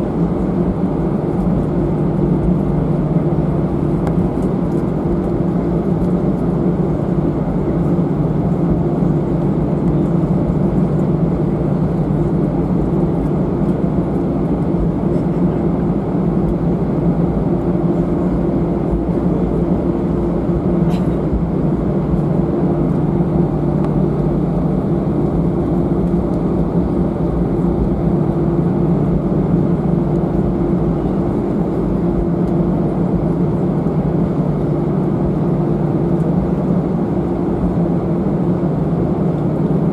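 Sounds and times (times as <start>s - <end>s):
constant low hum: 0.0s - 39.9s
jet engines droning: 0.0s - 39.9s.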